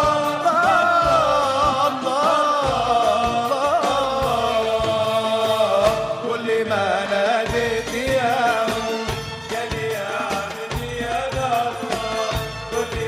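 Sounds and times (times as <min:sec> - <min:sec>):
melismatic singing: 0:00.0 - 0:13.0
steady percussion beat: 0:00.0 - 0:13.0.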